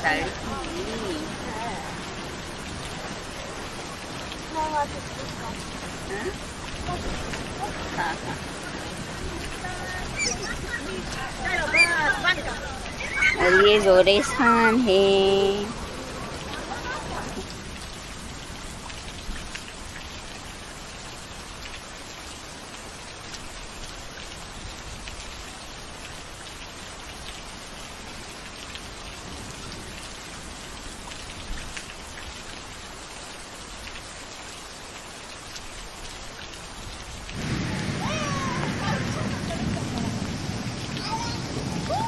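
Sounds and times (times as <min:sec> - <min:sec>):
rain pattering on wet ground: 0:00.0 - 0:42.0
single louder raindrops: 0:00.0 - 0:42.0.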